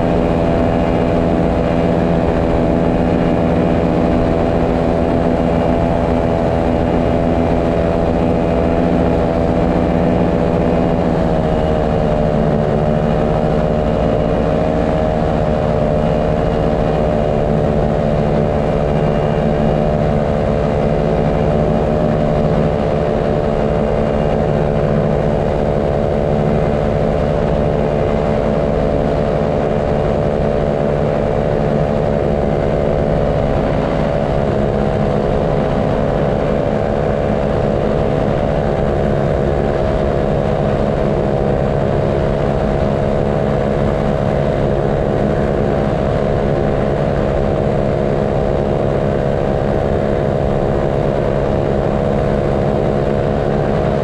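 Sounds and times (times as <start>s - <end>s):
paramotor engine and propeller: 0.0s - 54.0s.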